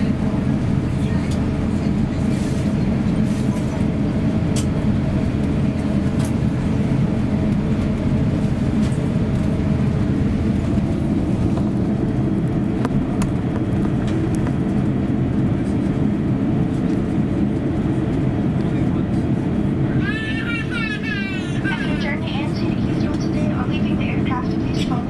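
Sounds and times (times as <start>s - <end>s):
aircraft cabin low rumble: 0.0s - 25.0s.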